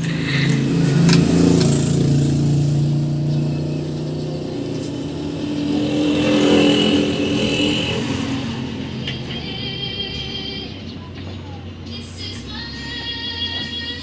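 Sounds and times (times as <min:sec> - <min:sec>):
scooter engine revving: 0:00.0 - 0:13.1.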